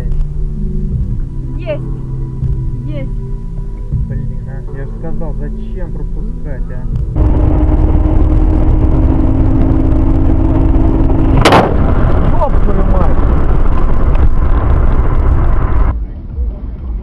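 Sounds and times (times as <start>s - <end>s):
car road and wind rumble: 0.0s - 17.0s.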